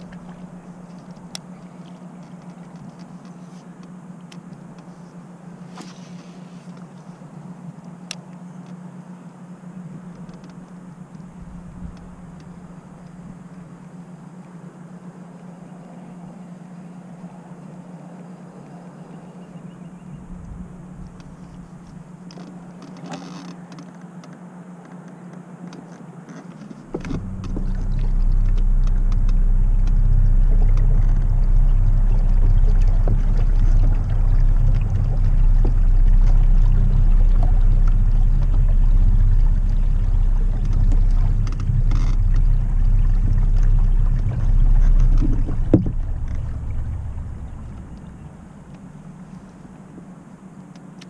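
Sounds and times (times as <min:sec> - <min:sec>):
boat motor and water rumble: 0:00.0 - 0:51.0.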